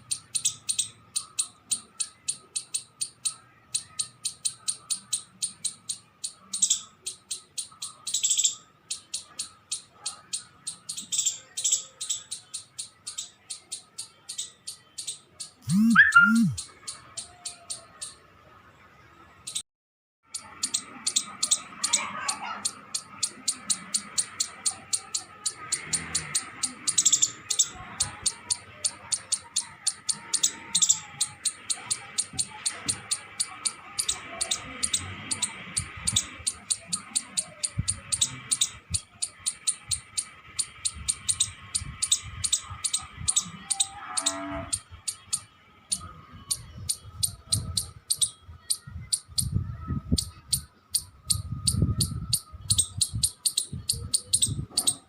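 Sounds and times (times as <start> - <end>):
squirrel chirping: 0.0 - 18.2, 19.4 - 19.6, 20.3 - 55.0.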